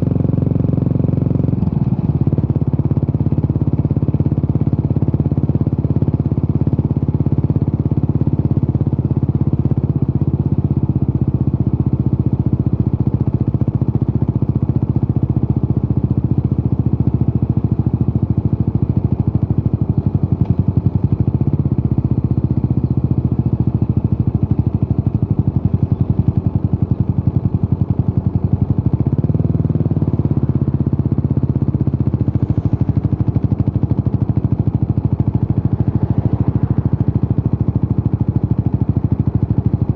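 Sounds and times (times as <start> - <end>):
motorcycle engine exhaust pulsing: 0.0 - 39.9.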